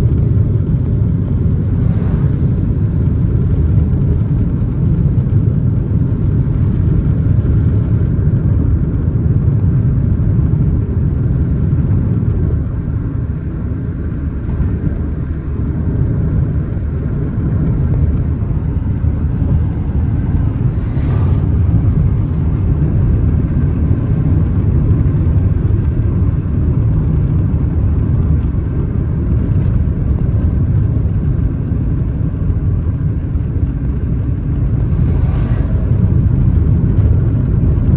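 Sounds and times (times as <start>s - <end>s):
vehicle road rumble: 0.0s - 37.9s.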